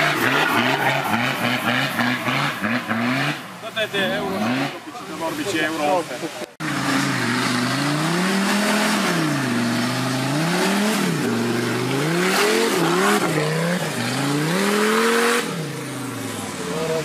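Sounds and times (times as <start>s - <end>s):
engine revving up and down: 0.0s - 4.9s, 6.6s - 16.8s.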